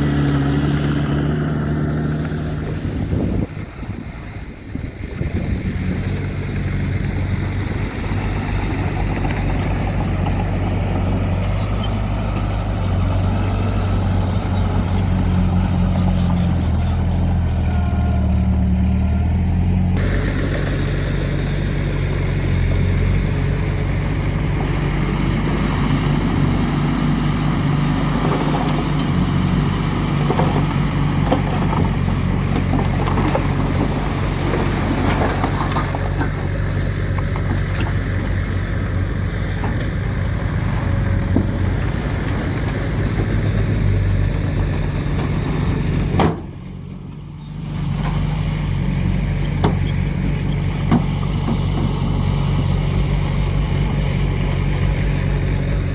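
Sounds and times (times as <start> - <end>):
diesel engine of earthmoving machine: 0.0 - 55.9.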